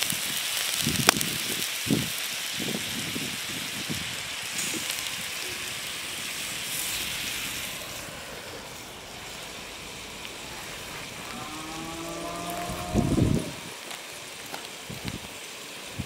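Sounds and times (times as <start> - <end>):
meat and vegetables sizzling: 0.0 - 16.0.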